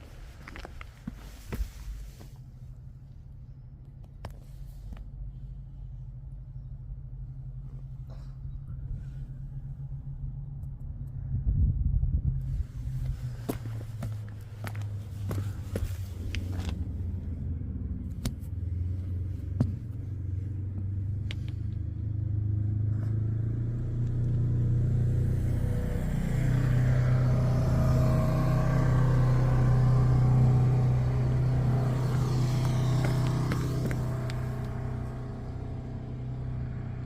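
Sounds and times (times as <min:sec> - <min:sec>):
engine exhaust low rumble: 0:00.0 - 0:37.0.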